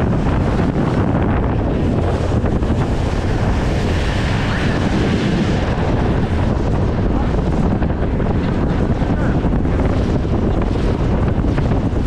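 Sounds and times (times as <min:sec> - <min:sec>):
boat wake rushing: 0:00.0 - 0:12.0
wind buffeting the microphone: 0:00.0 - 0:12.0.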